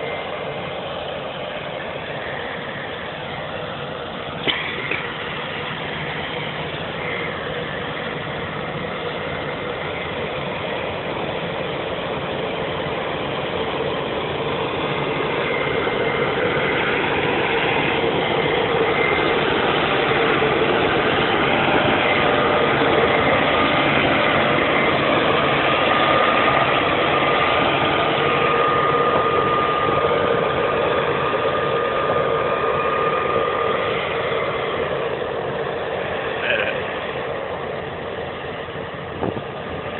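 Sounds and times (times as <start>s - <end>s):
combine harvester engine drone: 0.0s - 39.9s
thin steady whine: 0.0s - 39.9s.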